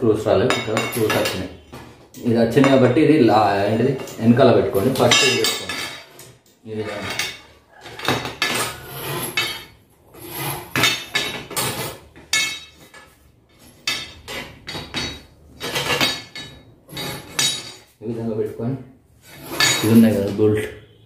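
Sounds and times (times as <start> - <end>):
steel tubes clanking on concrete: 0.4 - 3.0, 3.6 - 9.8, 10.4 - 18.0, 19.3 - 20.4.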